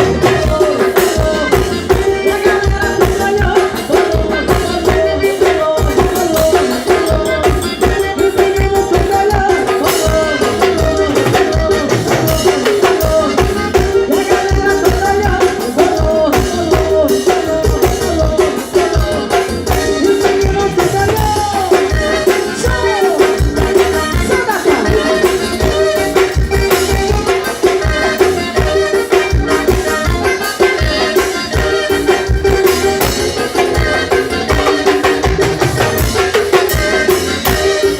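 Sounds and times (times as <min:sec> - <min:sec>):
live band over sound system: 0:00.0 - 0:37.9
person singing: 0:00.0 - 0:37.9.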